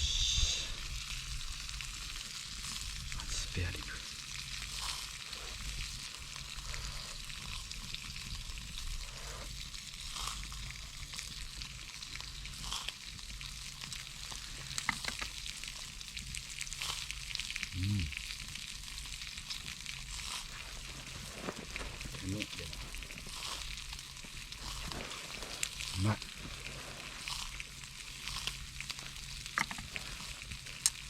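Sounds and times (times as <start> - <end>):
ribs sizzling over charcoal: 0.0 - 31.0
small pops and crackles: 0.5 - 31.0.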